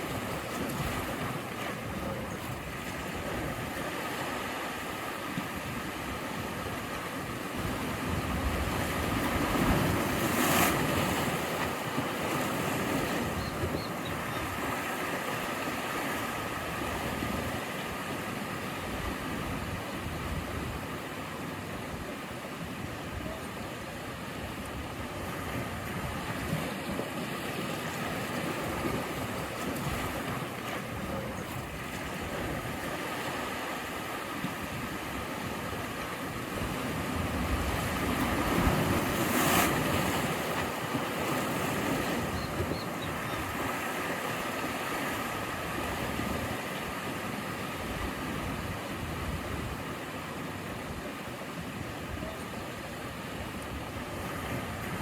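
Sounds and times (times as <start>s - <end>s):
wave breaking: 0.0s - 20.7s, 23.2s - 50.0s
sea waves washing in: 0.0s - 55.0s.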